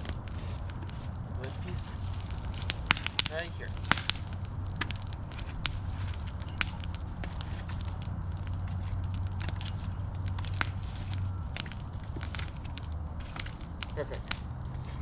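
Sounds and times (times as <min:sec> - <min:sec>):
bonfire burning: 0:00.0 - 0:15.0
sharp pops of fire: 0:00.0 - 0:15.0.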